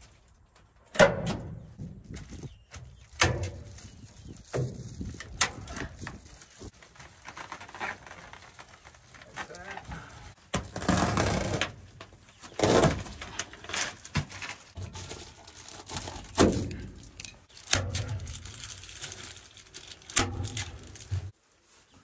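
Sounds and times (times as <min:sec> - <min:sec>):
foil insulation crinkling: 0:02.0 - 0:22.0.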